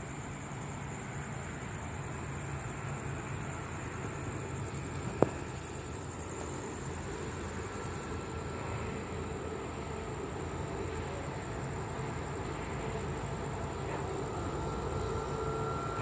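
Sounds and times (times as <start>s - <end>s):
distant freight train rumble: 0.0s - 16.0s.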